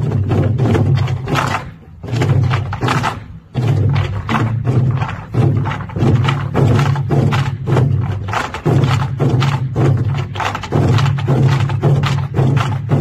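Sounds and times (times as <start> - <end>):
barrel drums in fast rhythm: 0.0 - 13.0
steady deep drum tone: 0.0 - 13.0.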